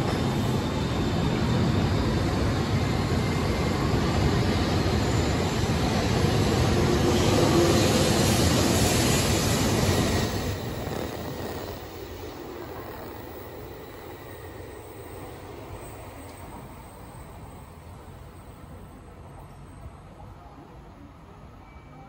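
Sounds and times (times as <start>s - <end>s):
bullet train running past: 0.0s - 22.0s.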